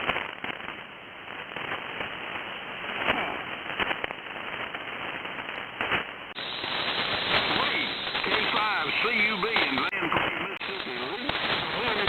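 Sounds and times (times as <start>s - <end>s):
crackling static crashes: 0.0s - 12.0s
radio receiver hiss: 0.0s - 12.0s.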